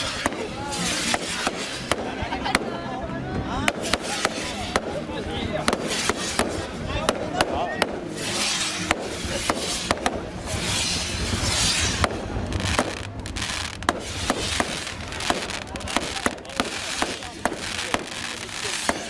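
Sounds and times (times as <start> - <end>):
crackling firework shells: 0.0 - 2.8, 3.6 - 19.0
fireworks bangs: 0.0 - 2.8, 3.4 - 19.0.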